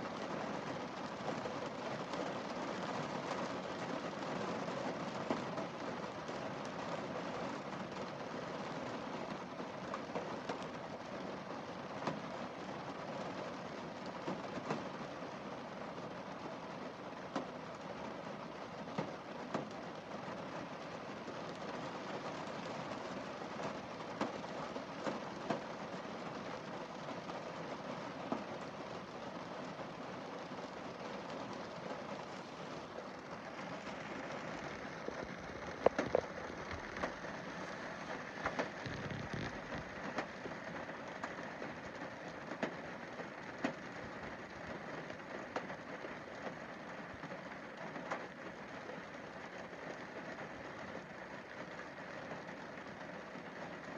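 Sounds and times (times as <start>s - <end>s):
rain on car windscreen: 0.0s - 53.9s.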